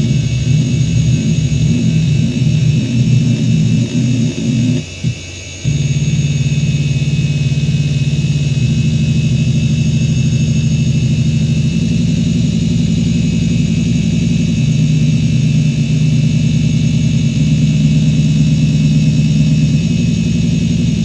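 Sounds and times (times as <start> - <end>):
hard drive seeking buzz: 0.0 - 21.0
high spindle whine: 0.0 - 21.0.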